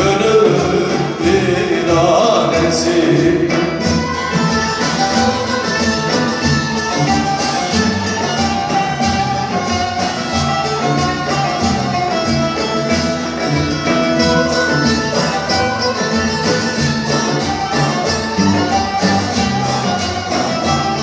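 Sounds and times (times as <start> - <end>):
bowed strings melody: 0.0 - 21.0
folk music ensemble: 0.0 - 21.0.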